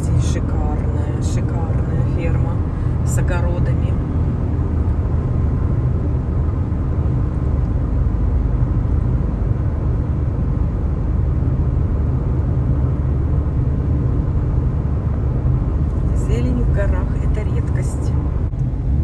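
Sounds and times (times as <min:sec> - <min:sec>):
car interior road and engine rumble: 0:00.0 - 0:19.0.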